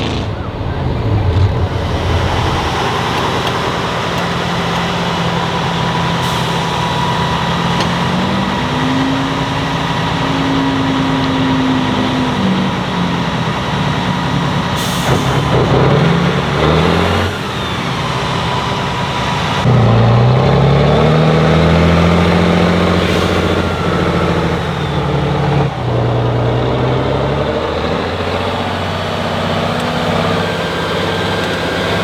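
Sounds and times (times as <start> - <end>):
truck engine revving under load: 0.0 - 32.0.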